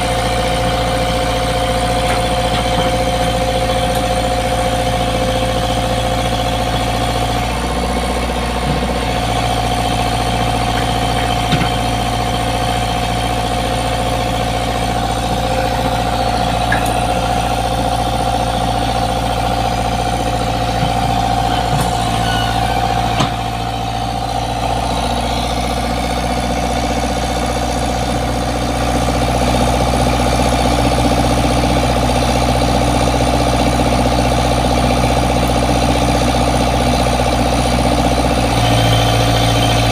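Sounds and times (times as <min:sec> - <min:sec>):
diesel engine idling with whine: 0:00.0 - 0:39.9.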